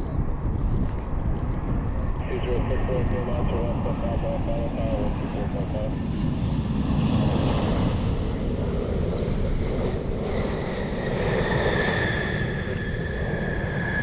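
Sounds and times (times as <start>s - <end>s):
jet engine whine: 0.0s - 14.0s
wind buffeting microphone: 0.0s - 14.0s.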